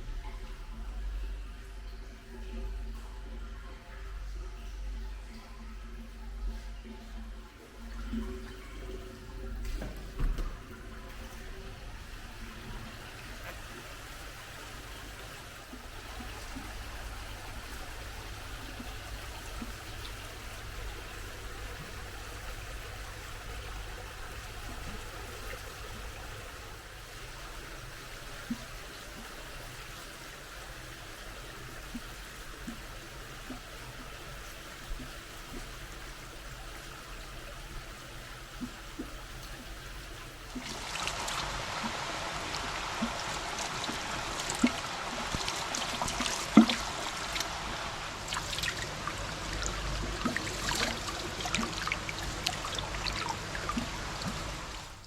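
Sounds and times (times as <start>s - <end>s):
small water drips: 0.0s - 55.0s
water running and trickling: 0.3s - 55.0s.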